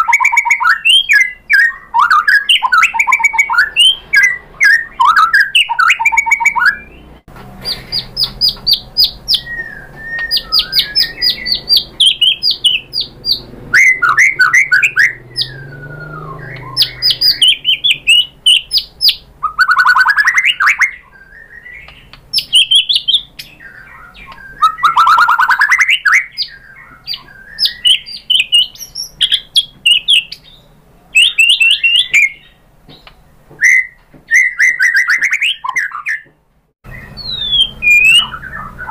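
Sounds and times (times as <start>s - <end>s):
songbird singing trills and whistles: 0.0s - 38.9s.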